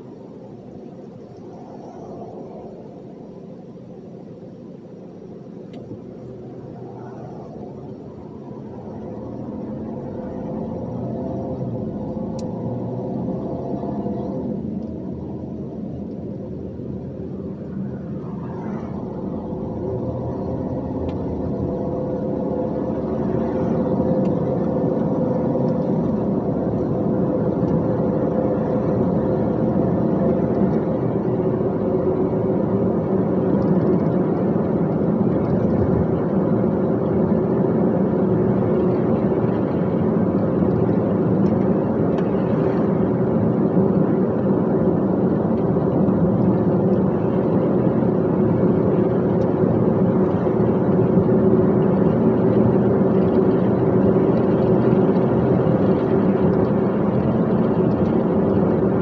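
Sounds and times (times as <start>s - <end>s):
truck engine drone: 0.0s - 59.0s.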